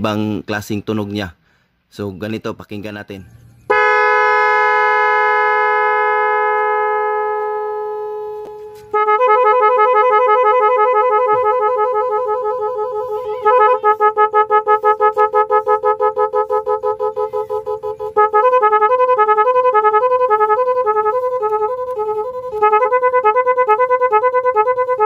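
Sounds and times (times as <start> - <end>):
pulsing horn beeps: 3.7 - 25.0
two-note horn tone: 3.7 - 25.0
warbling two-note horn: 3.7 - 25.0.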